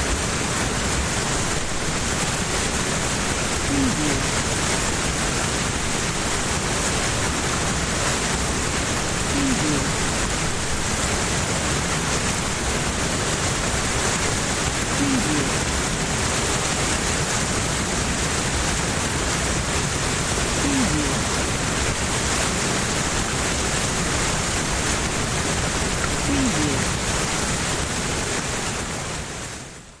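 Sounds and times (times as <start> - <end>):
fast-flowing water rushing: 0.0 - 30.0.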